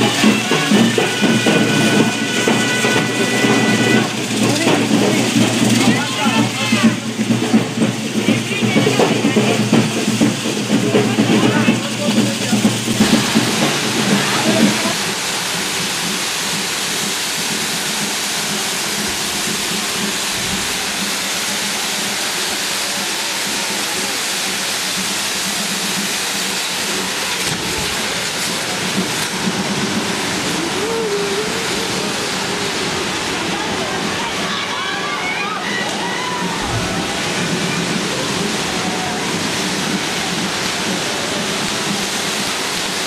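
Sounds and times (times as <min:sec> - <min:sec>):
fireworks hissing: 0:00.0 - 0:43.0.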